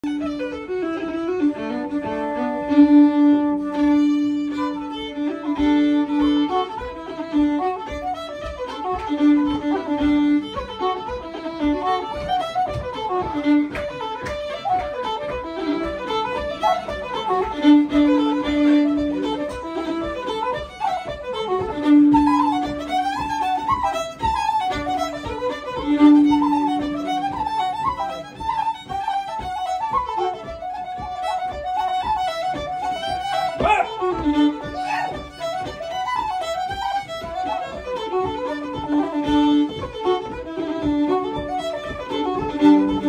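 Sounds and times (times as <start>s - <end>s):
fiddle: 0.0s - 43.0s
wooden flute: 0.0s - 43.0s.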